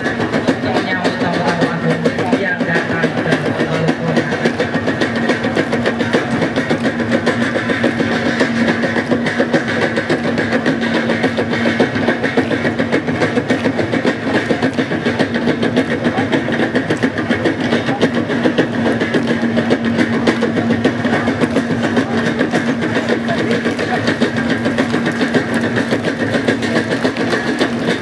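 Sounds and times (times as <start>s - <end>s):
drum and gong ensemble: 0.0s - 28.0s.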